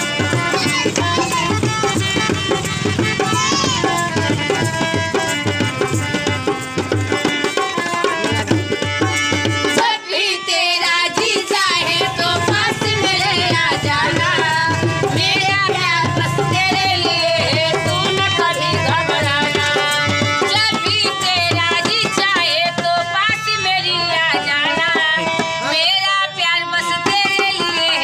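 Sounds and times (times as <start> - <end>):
ornamented folk melody: 0.0 - 28.0
tabla drumming: 0.0 - 28.0.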